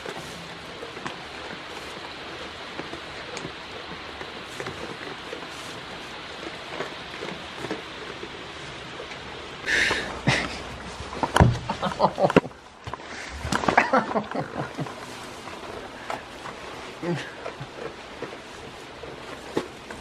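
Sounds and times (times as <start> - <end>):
rain pattering on a roof: 0.0 - 20.0.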